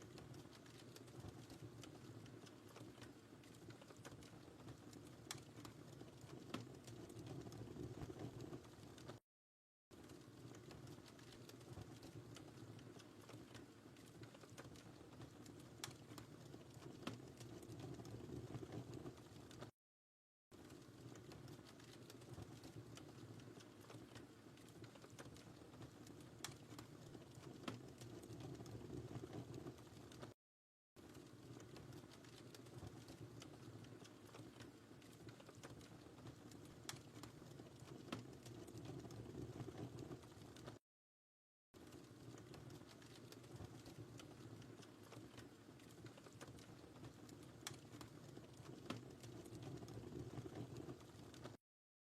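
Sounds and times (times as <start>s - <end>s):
wood fire crackling: 0.0s - 9.2s, 9.9s - 19.7s, 20.6s - 30.4s, 31.0s - 40.8s, 41.8s - 51.6s.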